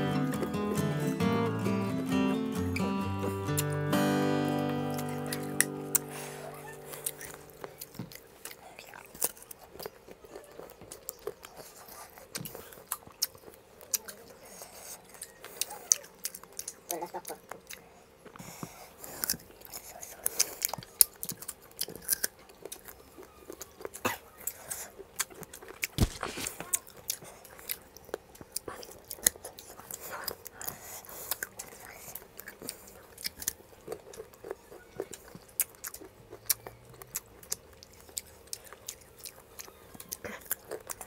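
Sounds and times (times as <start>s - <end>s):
crunching and chewing fruit: 0.0s - 2.0s, 3.1s - 41.0s.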